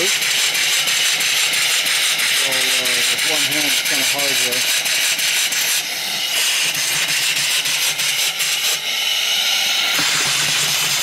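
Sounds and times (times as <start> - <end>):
steam engine exhaust beats: 0.0 - 11.0
steam hissing: 0.0 - 11.0.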